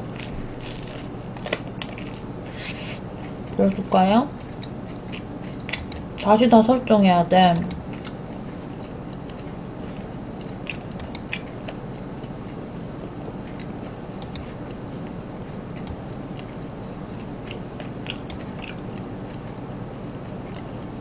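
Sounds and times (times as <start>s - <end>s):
chewing crispy chicken: 0.0s - 6.3s, 7.8s - 21.0s.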